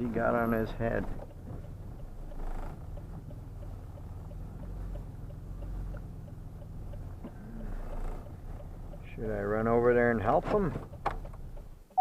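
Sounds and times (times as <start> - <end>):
faint regular ticking: 0.0 - 12.0
vehicle engine idling: 0.0 - 12.0.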